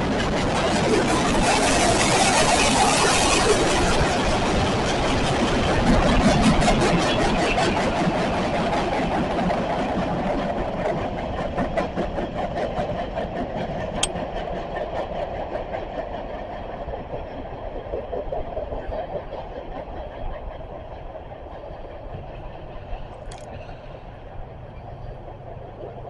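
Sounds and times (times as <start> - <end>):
train rumble: 0.0 - 26.0
train wheels clicking over rail joints: 0.3 - 26.0.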